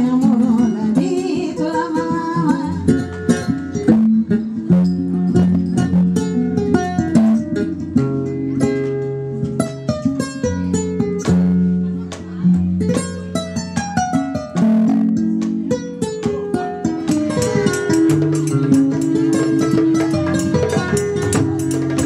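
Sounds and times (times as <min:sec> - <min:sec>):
harp-lute plucked melody: 0:00.0 - 0:22.0.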